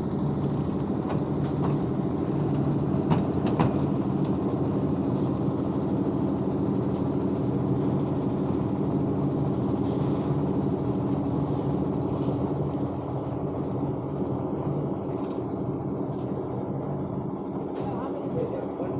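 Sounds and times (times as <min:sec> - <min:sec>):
heavy engine droning: 0:00.0 - 0:18.9.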